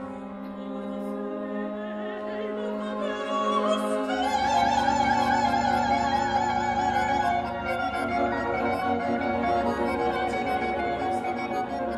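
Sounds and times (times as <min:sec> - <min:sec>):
bowed strings sustained notes: 0:00.0 - 0:11.9
soprano singing: 0:00.0 - 0:11.9.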